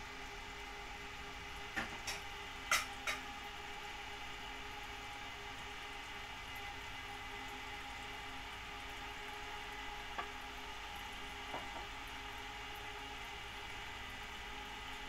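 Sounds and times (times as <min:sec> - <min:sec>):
cooling fan whirring hum: 0:00.0 - 0:15.0.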